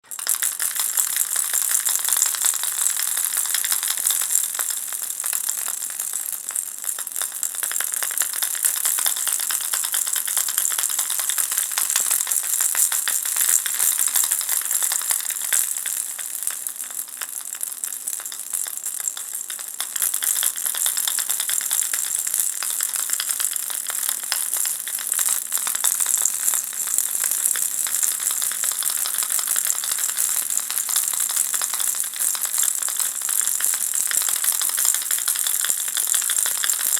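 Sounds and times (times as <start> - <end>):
baby rattle shaken: 0.0 - 36.9.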